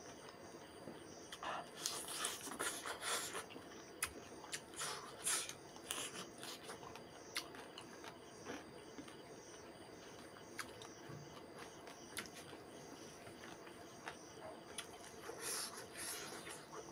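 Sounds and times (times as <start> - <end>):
person chewing food: 1.3 - 9.2, 10.1 - 16.9.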